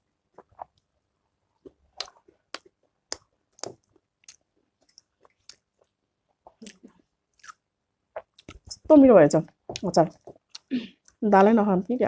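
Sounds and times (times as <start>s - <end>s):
person chewing with wet smacks: 0.3s - 8.8s, 9.5s - 11.6s.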